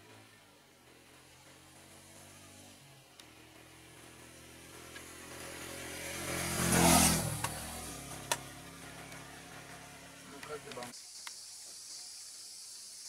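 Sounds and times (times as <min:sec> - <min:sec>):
motorcycle riding past: 0:00.0 - 0:10.9.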